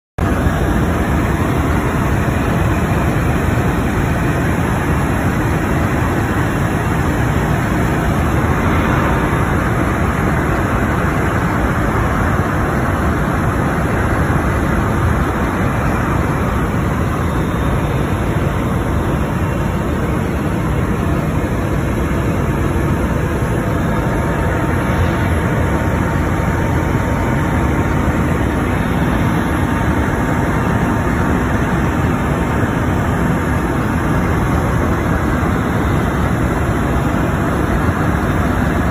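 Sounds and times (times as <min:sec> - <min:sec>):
helicopter engine and rotor drone: 0:00.2 - 0:38.9
faint thin whine: 0:00.3 - 0:38.8.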